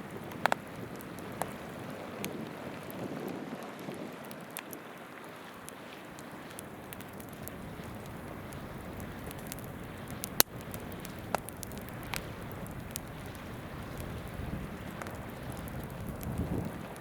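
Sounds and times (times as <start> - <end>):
babbling river: 0.0 - 17.0
campfire crackling with pops: 0.0 - 17.0.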